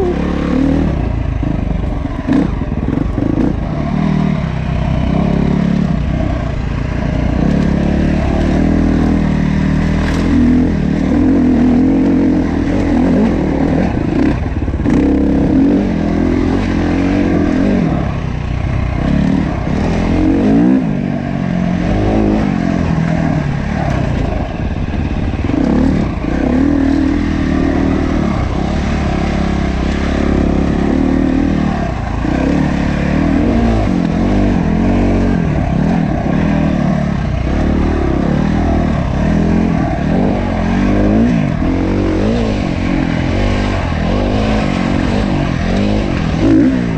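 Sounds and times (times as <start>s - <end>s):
clatter on rough trail: 0.0s - 46.9s
dirt bike engine: 0.0s - 46.9s.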